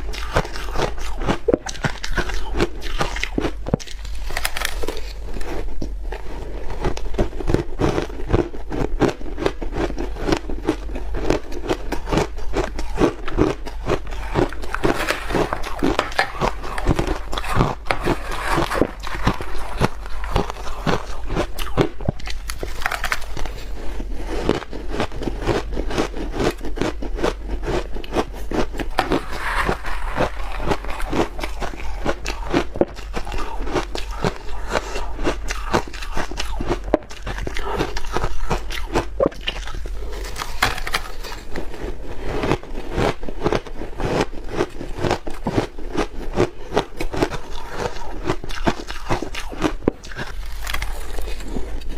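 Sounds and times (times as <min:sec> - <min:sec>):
ice crunching in mouth: 0:00.0 - 0:51.9.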